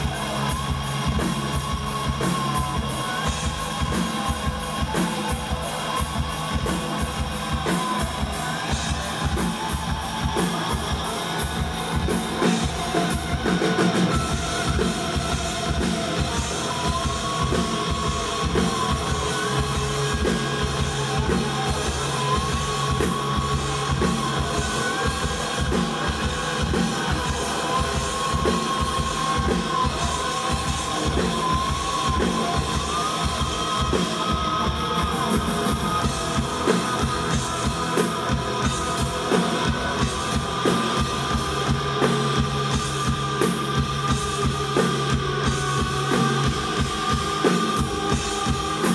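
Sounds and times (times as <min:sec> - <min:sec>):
drum kit beat: 0:00.0 - 0:48.9
live rock band: 0:00.0 - 0:48.9.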